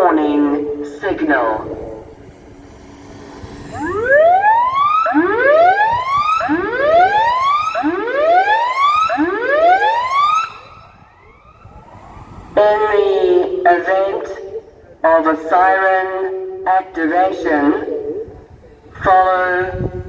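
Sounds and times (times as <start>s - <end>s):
rising siren sweeps: 0.0s - 16.4s.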